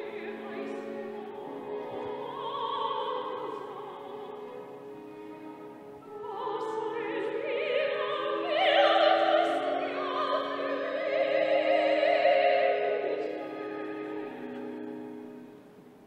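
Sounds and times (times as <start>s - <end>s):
soprano singing opera: 0.0s - 15.2s
orchestra playing held chords: 0.0s - 16.0s.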